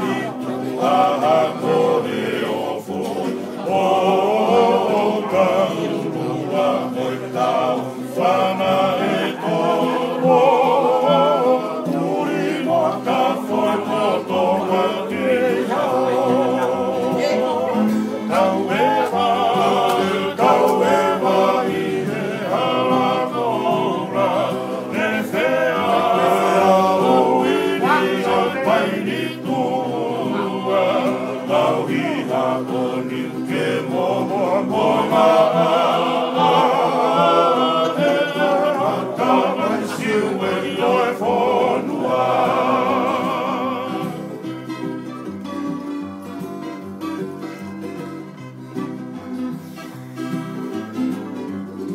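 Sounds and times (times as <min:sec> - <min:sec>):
men singing in harmony: 0:00.0 - 0:45.0
strummed acoustic guitars: 0:00.0 - 0:51.9
ukulele: 0:00.0 - 0:51.9.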